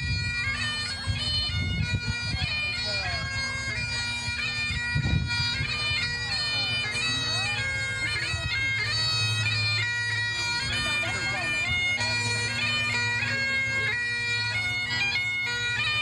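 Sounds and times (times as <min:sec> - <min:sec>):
bagpipes playing: 0:00.0 - 0:16.0.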